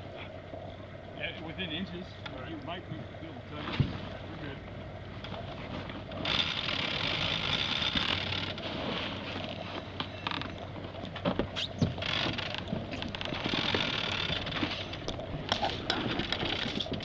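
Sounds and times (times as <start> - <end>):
wind and water hiss: 0.0 - 17.0.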